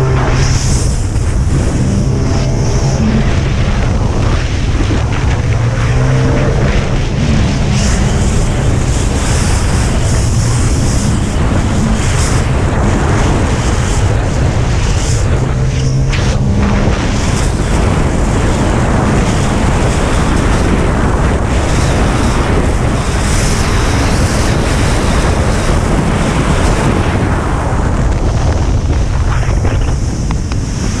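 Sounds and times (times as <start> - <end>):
rushing water: 0.0 - 31.0
wind buffeting microphone: 0.0 - 31.0.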